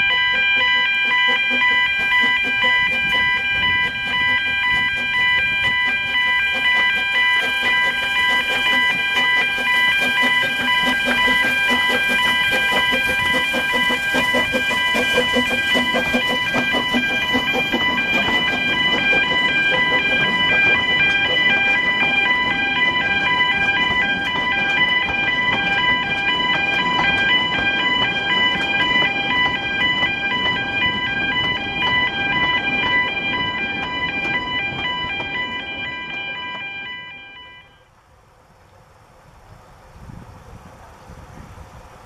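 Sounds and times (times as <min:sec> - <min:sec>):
high pulsing wheel squeal: 0:00.0 - 0:37.8
train wheels rumbling on rails: 0:00.0 - 0:42.0.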